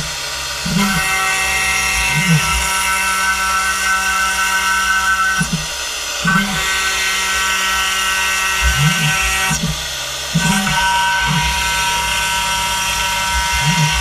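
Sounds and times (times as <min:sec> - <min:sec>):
low motor tones: 0:00.0 - 0:14.0
milling spindle whine: 0:00.0 - 0:14.0.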